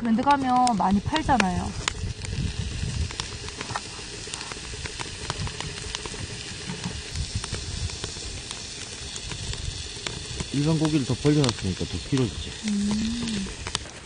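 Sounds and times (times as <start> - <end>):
fat popping and crackling: 0.0 - 14.0
pork sizzling in a frying pan: 0.0 - 14.0.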